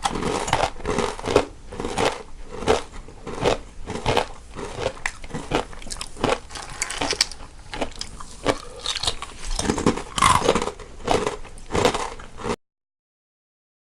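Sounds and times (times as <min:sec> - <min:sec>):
people crunching snacks: 0:00.0 - 0:12.6.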